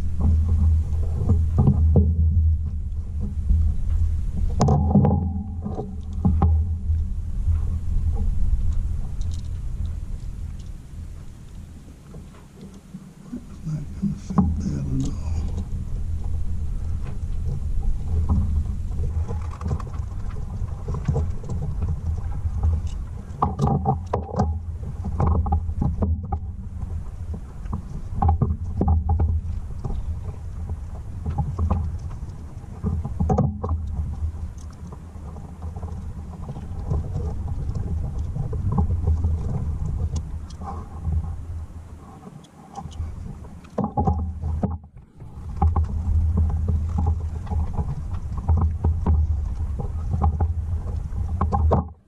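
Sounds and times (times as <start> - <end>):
low rumble: 0.0 - 42.2, 42.9 - 51.7.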